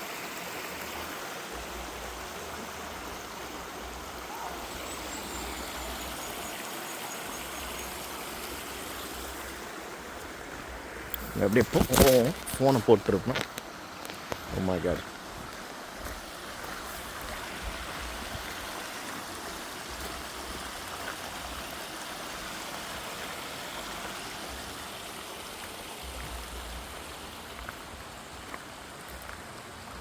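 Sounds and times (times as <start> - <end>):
stream water running: 0.0 - 30.0.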